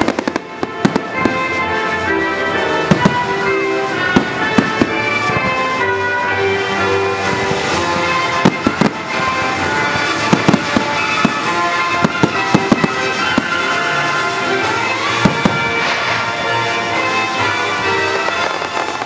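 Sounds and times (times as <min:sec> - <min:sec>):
fireworks bursting: 0:00.0 - 0:19.0
loud music with sustained tones: 0:00.0 - 0:19.0.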